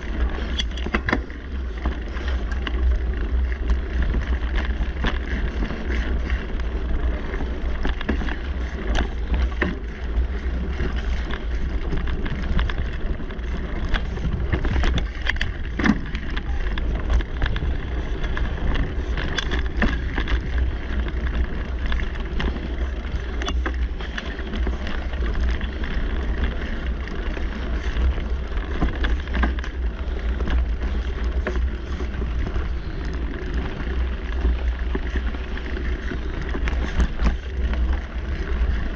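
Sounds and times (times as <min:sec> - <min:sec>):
bike clicks and knocks: 0:00.0 - 0:38.9
tyres rolling over dirt: 0:00.0 - 0:38.9
wind rumble on microphone: 0:00.0 - 0:38.9.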